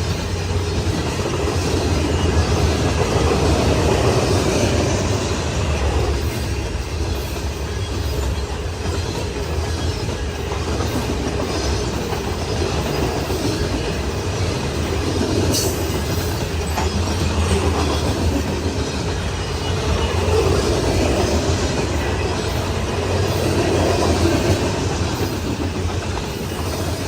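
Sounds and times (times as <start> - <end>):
freight train wheels on rails: 0.0 - 27.0.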